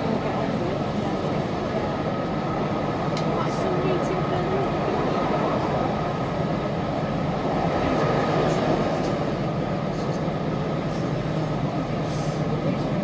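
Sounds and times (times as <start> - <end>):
engine hum: 0.0 - 13.0
train wheels rumbling on rails: 0.0 - 13.0.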